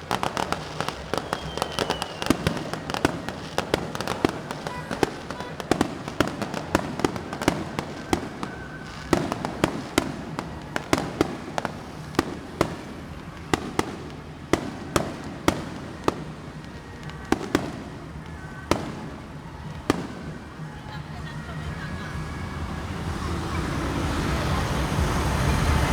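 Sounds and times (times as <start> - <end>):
fireworks banging: 0.0 - 25.9.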